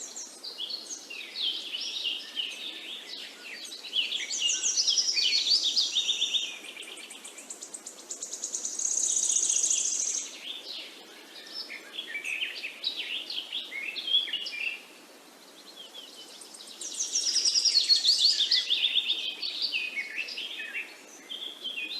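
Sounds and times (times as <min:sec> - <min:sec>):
songbirds singing: 0:00.0 - 0:21.9.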